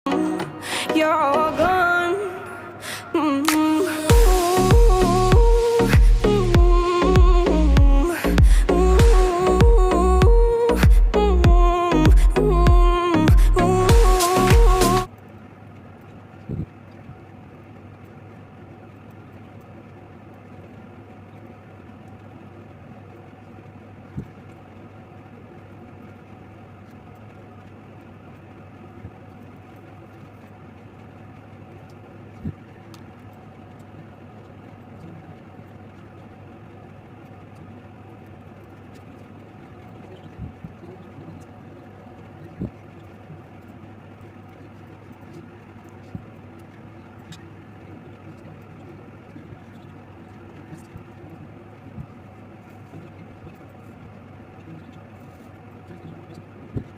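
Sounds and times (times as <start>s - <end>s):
low background hum: 0.0s - 56.9s.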